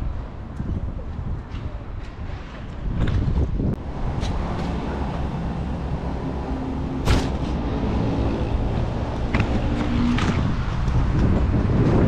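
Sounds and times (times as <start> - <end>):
wind buffeting microphone: 0.0 - 6.6, 7.4 - 12.0.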